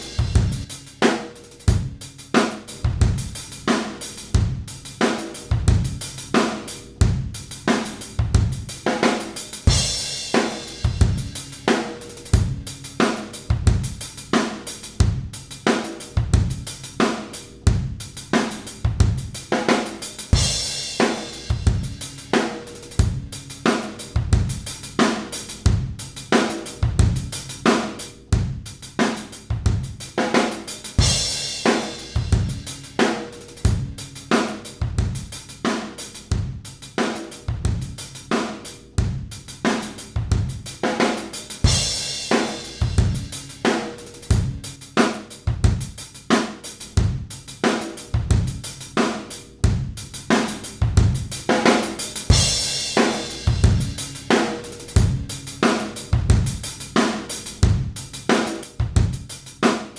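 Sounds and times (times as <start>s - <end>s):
drum kit groove: 0.0s - 59.9s.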